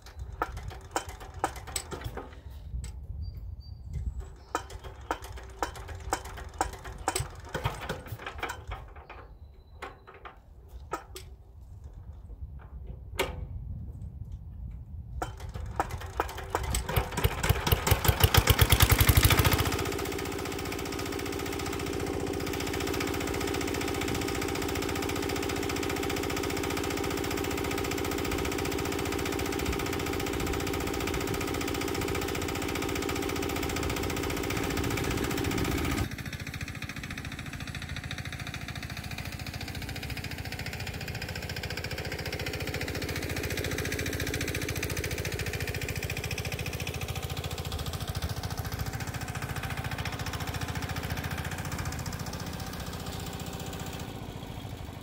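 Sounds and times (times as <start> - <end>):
diesel engine running: 4.1 - 10.2, 15.2 - 55.0.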